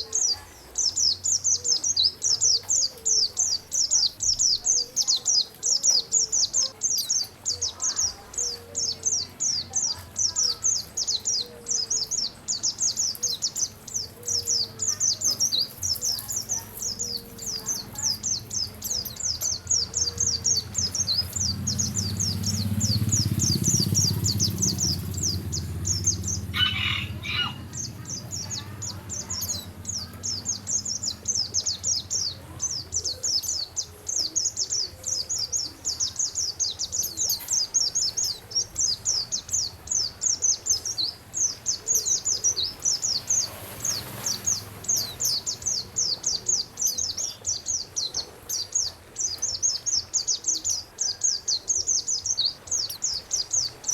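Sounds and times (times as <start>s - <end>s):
songbird chirping: 0.0s - 53.9s.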